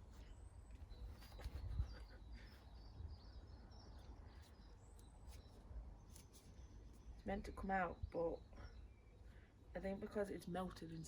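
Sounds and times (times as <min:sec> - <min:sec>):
garden birds chirping: 0:00.0 - 0:11.0.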